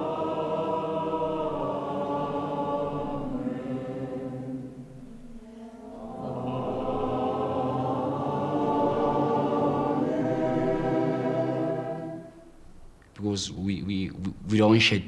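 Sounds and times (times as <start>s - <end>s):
congregation singing: 0.0s - 12.8s.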